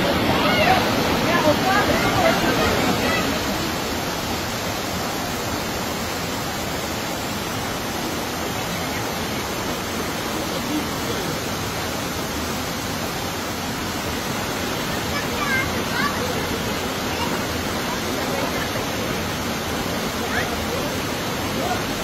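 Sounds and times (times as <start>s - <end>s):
floodwater rushing over ground: 0.0s - 22.0s
heavy rain pouring: 0.0s - 22.0s.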